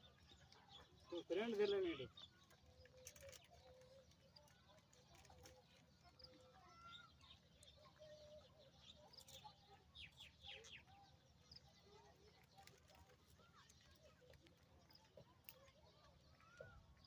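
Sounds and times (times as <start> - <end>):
bird calls and chirps: 0.0 - 17.0.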